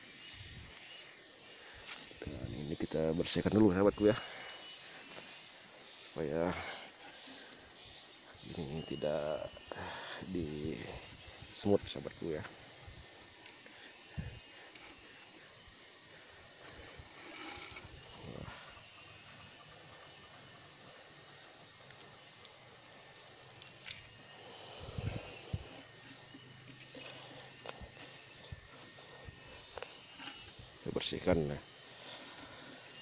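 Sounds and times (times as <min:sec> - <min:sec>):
high-pitched insect drone: 0:00.0 - 0:33.0
pulsing insect: 0:00.0 - 0:33.0.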